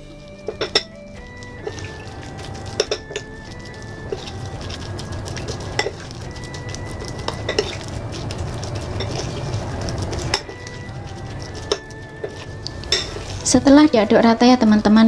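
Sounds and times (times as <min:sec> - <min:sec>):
spoon stirring sticky paste: 0:00.0 - 0:15.0
spoon clinking against bowl: 0:00.4 - 0:04.8, 0:05.4 - 0:13.4.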